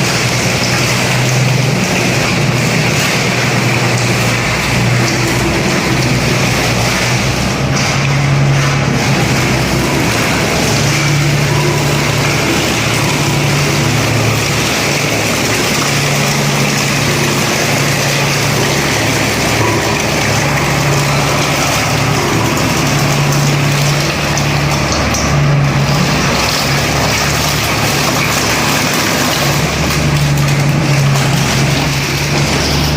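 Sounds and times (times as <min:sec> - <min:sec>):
road roller engine droning: 0:00.0 - 0:32.9.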